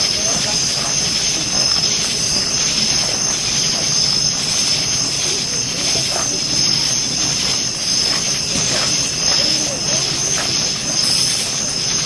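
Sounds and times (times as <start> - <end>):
murmur of people talking: 0.0 - 12.0
night insects chirring: 0.0 - 12.0.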